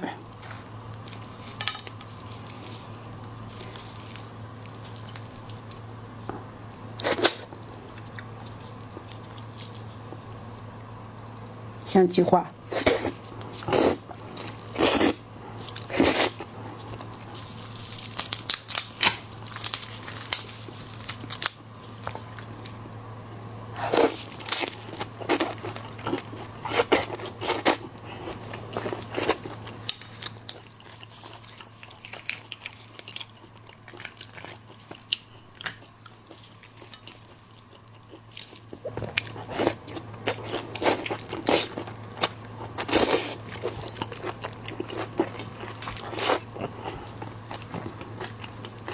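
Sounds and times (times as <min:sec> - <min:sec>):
crunching and chewing: 0:00.2 - 0:11.6, 0:12.6 - 0:48.9.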